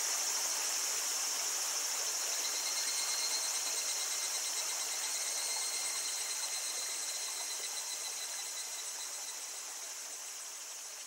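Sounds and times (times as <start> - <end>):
babbling stream: 0.0 - 11.0
cicadas chorus: 0.0 - 11.0.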